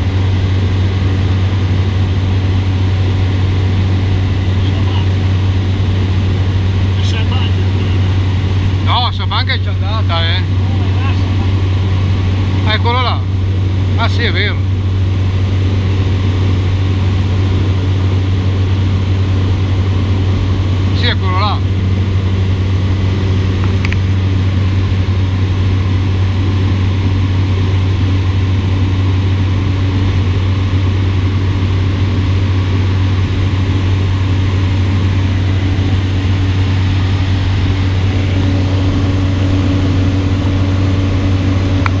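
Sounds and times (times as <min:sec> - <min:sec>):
propeller engine drone: 0:00.0 - 0:42.0.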